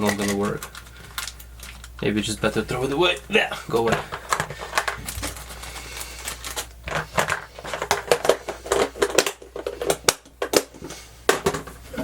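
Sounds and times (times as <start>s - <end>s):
small plastic parts rattling: 0.0s - 10.7s.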